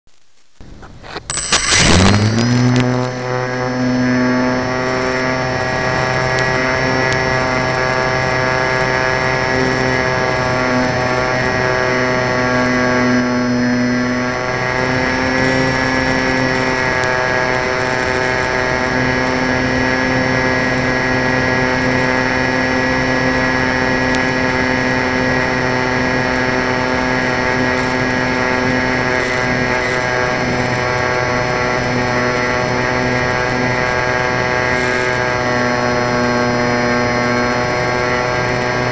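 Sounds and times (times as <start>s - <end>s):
electric motor high whine: 1.0s - 38.9s.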